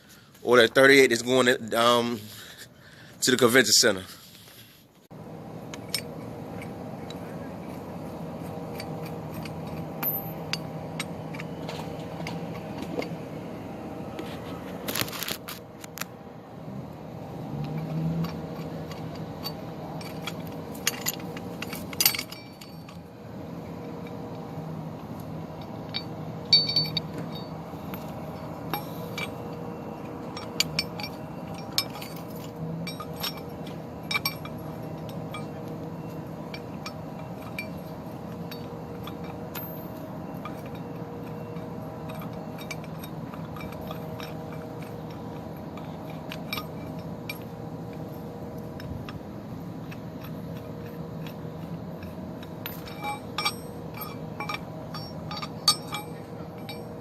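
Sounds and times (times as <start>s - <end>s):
steady low hum: 0.0s - 57.0s
light clinks and jangles: 5.6s - 16.1s, 17.2s - 57.0s.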